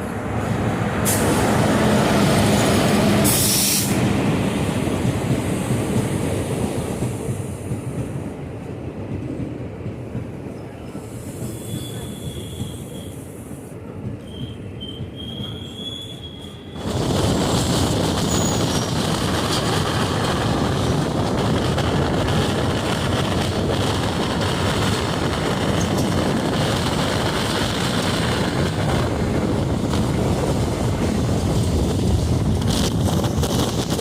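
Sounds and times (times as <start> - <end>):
train passing with rumble and rush: 0.0 - 34.0.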